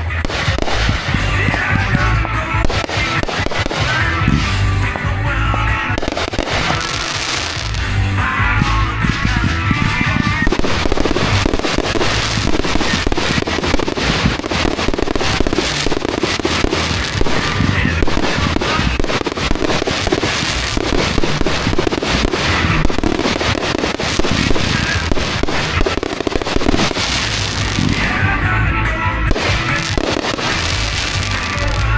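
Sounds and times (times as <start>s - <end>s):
fireworks cracking and booming: 0.0s - 31.9s
loud music: 0.0s - 31.9s.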